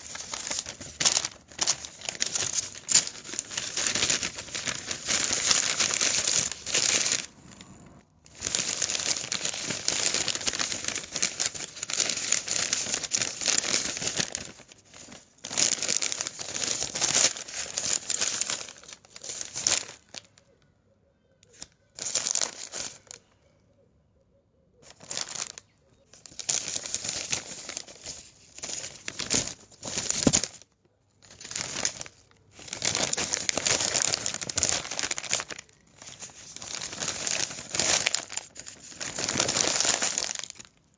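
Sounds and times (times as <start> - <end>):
newspaper crumpling: 0.0 - 20.4, 21.5 - 23.2, 24.8 - 40.8.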